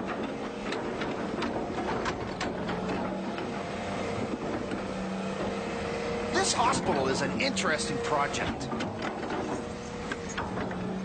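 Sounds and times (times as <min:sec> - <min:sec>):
bucket clanking and scraping: 0:00.0 - 0:11.0
excavator engine running: 0:00.0 - 0:11.0.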